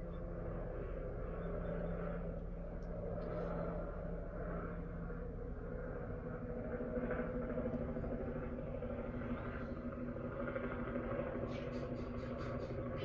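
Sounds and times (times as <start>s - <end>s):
faint constant hum: 0.0s - 13.0s
low background rumble: 0.0s - 13.0s.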